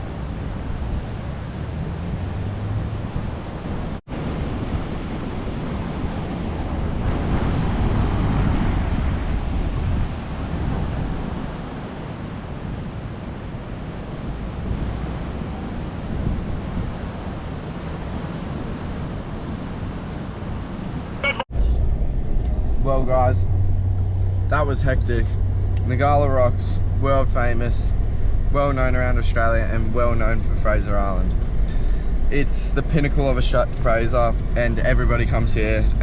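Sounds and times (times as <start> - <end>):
engine and tyre rumble: 0.0 - 36.0
wind buffeting microphone: 0.0 - 36.0.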